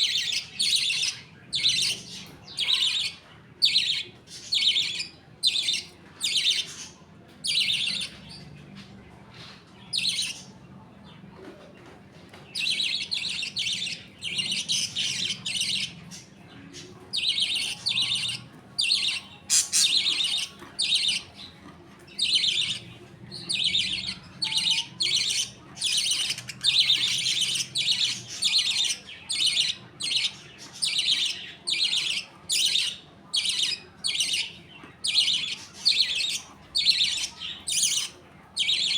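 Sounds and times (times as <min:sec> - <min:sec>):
budgerigars chattering and chirping: 0:00.0 - 0:11.2, 0:12.4 - 0:38.9.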